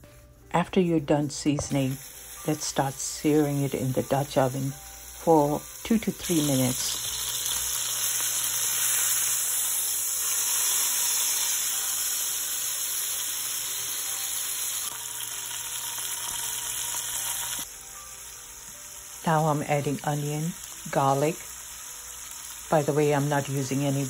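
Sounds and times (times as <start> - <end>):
meat sizzling in hot oil: 1.6 - 24.0.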